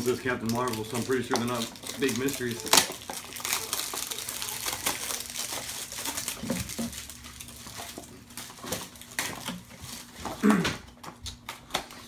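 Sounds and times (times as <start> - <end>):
plastic and foil packaging crinkling: 0.0 - 12.0.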